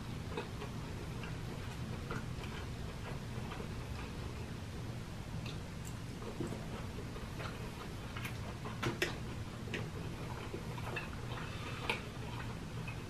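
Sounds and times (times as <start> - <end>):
low steady hum: 0.0 - 13.0
man chewing and lip smacking: 0.1 - 4.6, 5.4 - 13.0.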